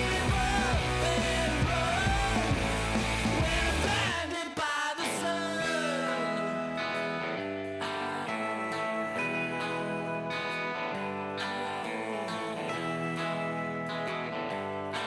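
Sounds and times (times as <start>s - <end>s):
rock song with sung vocal: 0.0s - 15.0s.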